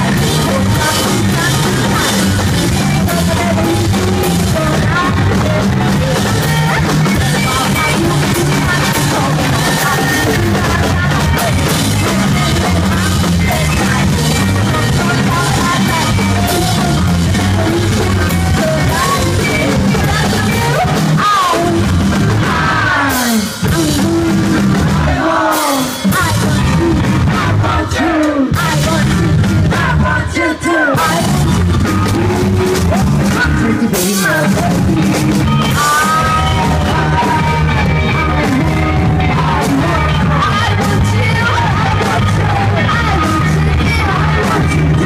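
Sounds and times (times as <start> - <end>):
woman singing and shouting: 0.0 - 24.5, 25.1 - 34.9, 35.5 - 45.0
rock and roll band playing: 0.0 - 45.0.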